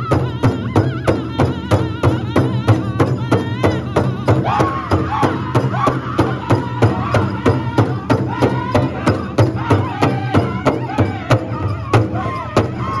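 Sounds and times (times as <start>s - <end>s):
men singing high wavering lines: 0.0s - 13.0s.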